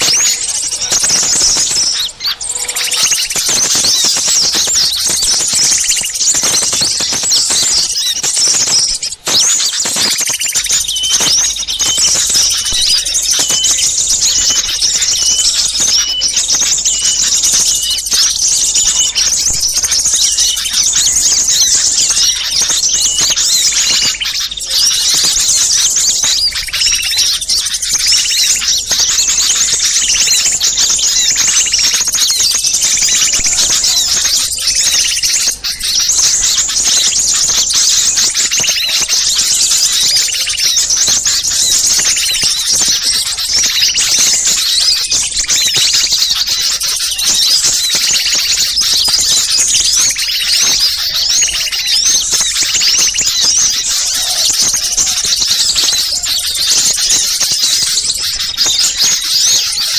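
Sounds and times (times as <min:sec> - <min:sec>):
songbirds chirping chorus: 0:00.0 - 0:59.9.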